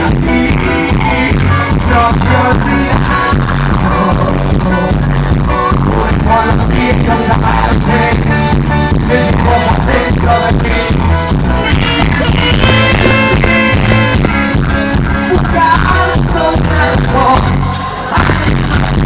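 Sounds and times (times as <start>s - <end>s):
drums and congas beat: 0.0s - 19.0s
live band music: 0.0s - 19.0s
man singing into microphone: 0.0s - 19.0s.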